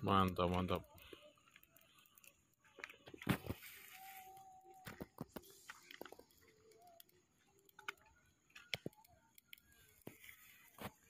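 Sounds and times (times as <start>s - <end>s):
faint clicks and ticks: 0.0s - 11.0s.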